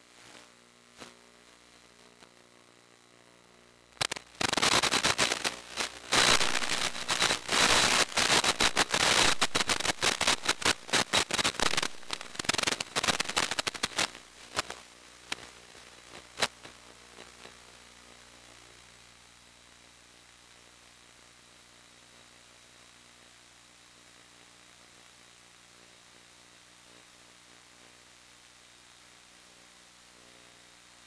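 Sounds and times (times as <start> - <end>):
crackling radio static: 0.0 - 31.0.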